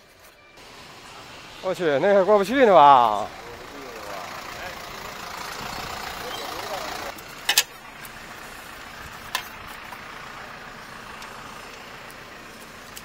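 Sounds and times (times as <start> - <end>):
vehicle running: 0.0 - 13.0.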